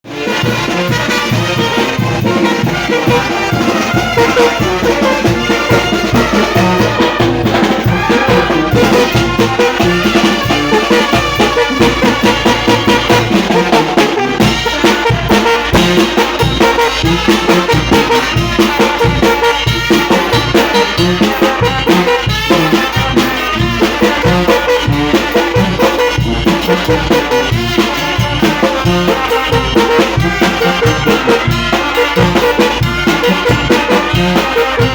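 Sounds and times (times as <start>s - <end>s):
brass band playing: 0.0s - 34.9s.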